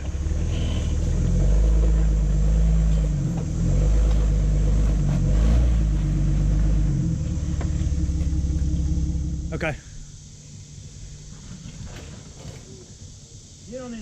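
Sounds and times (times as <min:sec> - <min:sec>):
off-road vehicle engine rumbling: 0:00.0 - 0:14.0.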